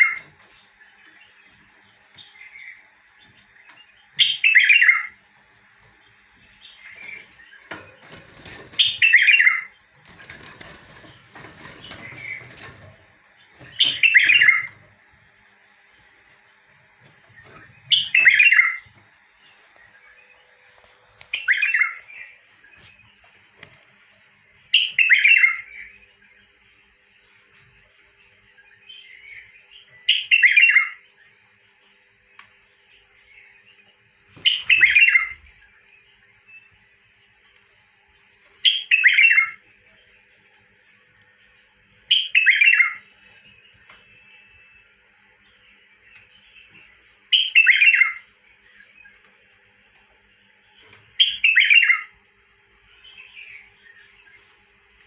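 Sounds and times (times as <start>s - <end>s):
bird warbling song: 0.0s - 55.0s.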